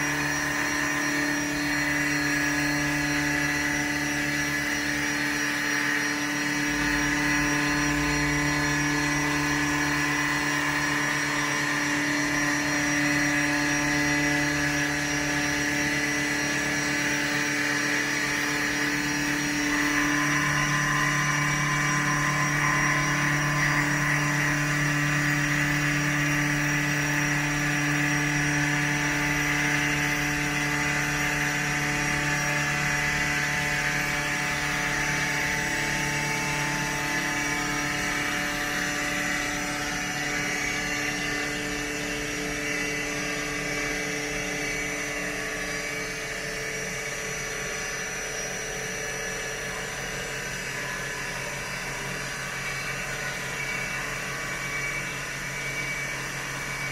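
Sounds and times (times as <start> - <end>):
machining spindle hum: 0.0 - 56.9.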